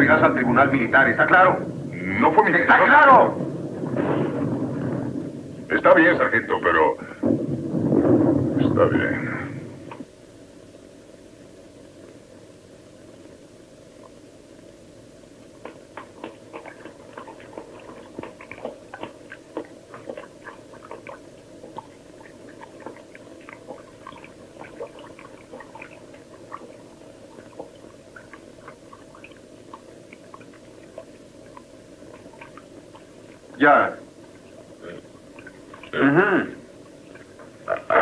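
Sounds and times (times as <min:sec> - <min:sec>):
steady low hiss: 0:00.0 - 0:38.0.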